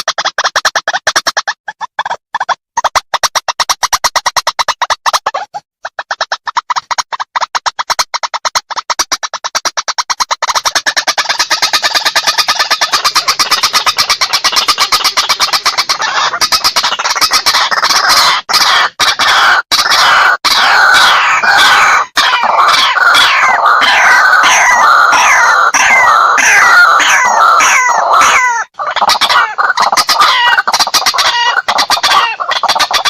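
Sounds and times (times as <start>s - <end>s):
bird clicking pulses: 0.0s - 33.0s.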